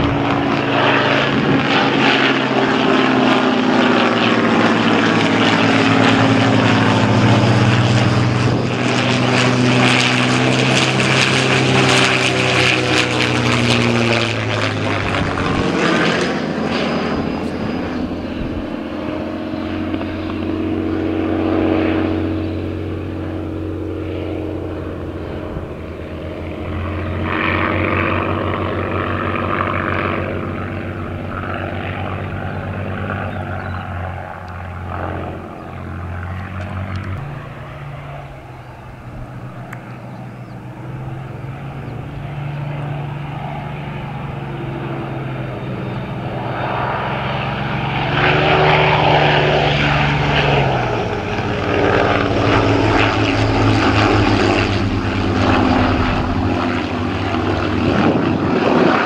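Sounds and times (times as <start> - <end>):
piston aircraft engines droning: 0.0 - 59.0.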